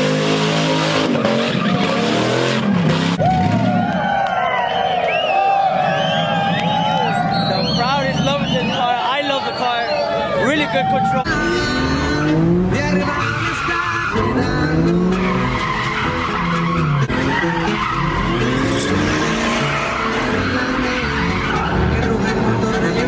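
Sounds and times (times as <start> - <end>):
car engine revving: 0.0 - 4.0, 5.8 - 9.2, 10.8 - 23.0
tire squeal: 0.0 - 23.0.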